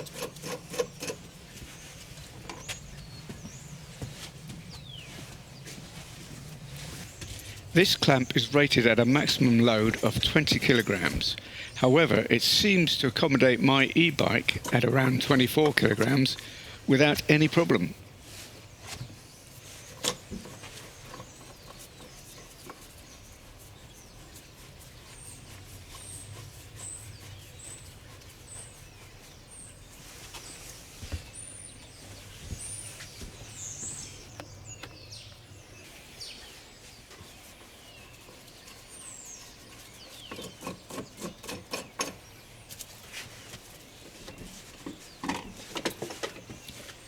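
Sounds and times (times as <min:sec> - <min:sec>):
birds chirping: 0:00.0 - 0:47.0
birds sliding calls: 0:00.0 - 0:47.0.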